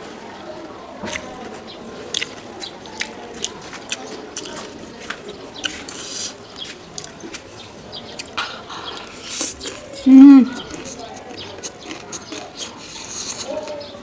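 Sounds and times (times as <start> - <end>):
crunchy chewing: 0.4 - 14.0.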